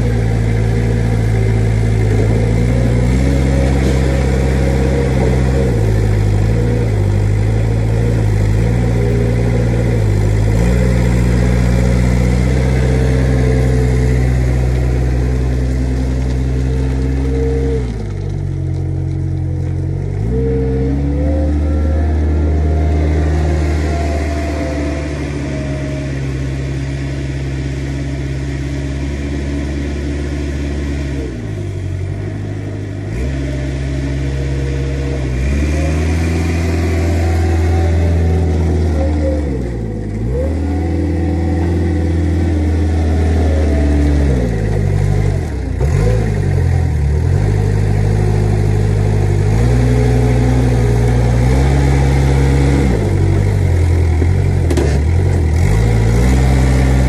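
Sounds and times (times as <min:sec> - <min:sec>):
forklift engine revving: 0:00.0 - 0:57.0.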